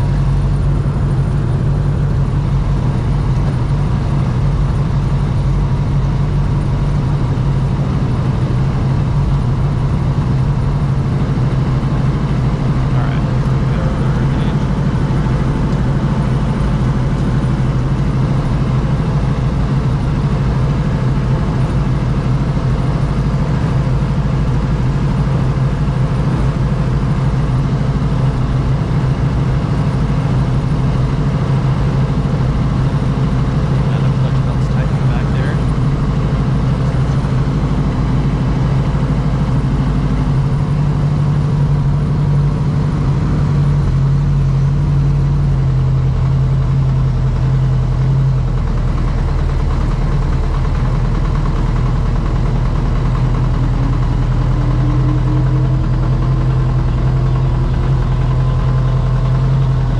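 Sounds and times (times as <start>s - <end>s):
helicopter piston engine droning: 0.0s - 59.9s.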